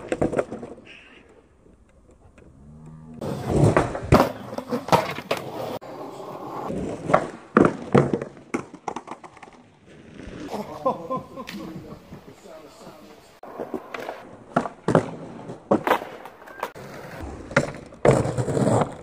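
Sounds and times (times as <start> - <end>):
skateboard deck clacking and scraping: 0.0 - 2.4, 3.2 - 10.6, 13.4 - 19.0
skateboard wheels rolling on pavement: 0.0 - 2.5, 3.2 - 19.0.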